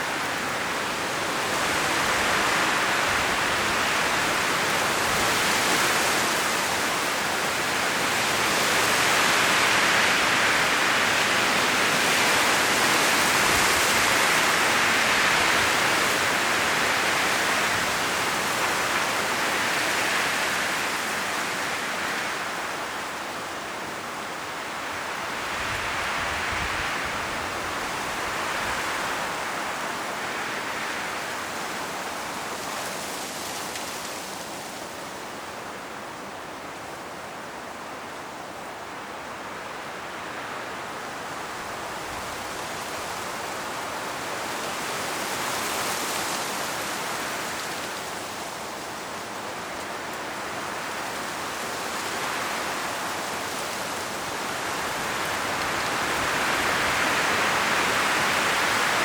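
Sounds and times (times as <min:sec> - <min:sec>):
strong wind rustling tree leaves: 0:00.0 - 0:59.0.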